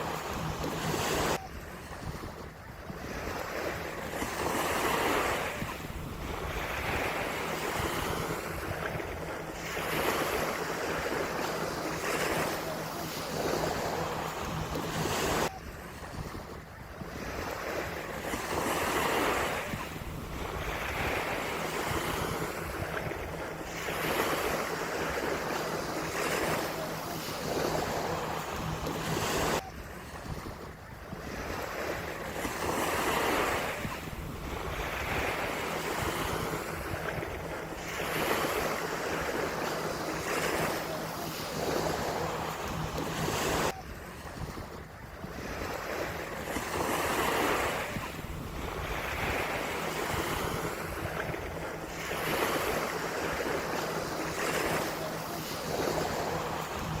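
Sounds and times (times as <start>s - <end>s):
wind rumbling on microphone: 0.0s - 12.4s, 13.2s - 26.6s, 27.3s - 40.7s, 41.5s - 54.8s
ocean surf breaking on a beach: 0.0s - 57.0s.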